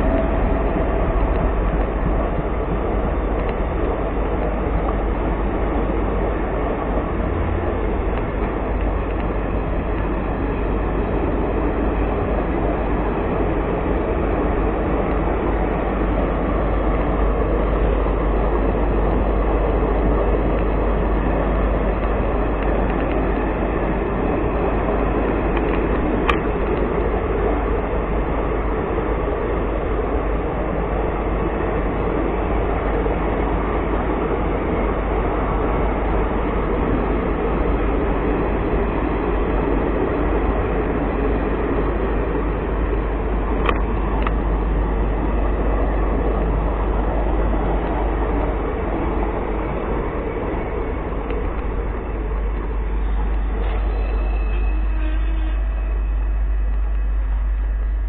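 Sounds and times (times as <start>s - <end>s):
train rumbling and rattling on track: 0.0s - 58.0s.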